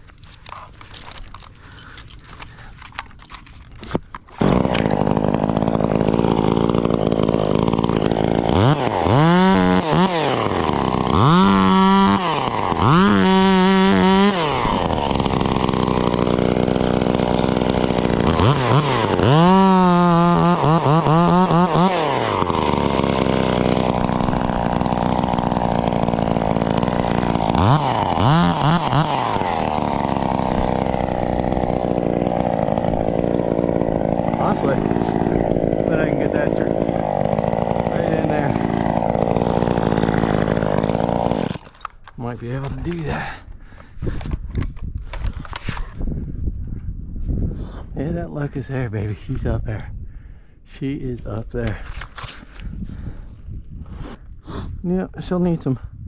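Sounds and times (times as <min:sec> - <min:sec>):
chainsaw starting and revving: 0:00.0 - 0:46.0.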